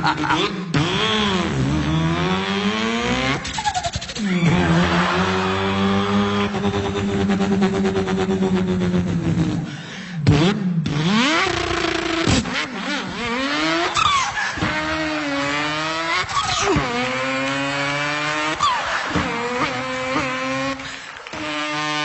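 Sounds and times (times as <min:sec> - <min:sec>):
man imitating car engine: 0:00.0 - 0:22.0.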